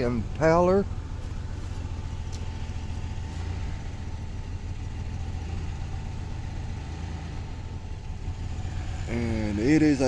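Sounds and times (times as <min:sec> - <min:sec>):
car engine idling with misfire: 0:00.0 - 0:10.0.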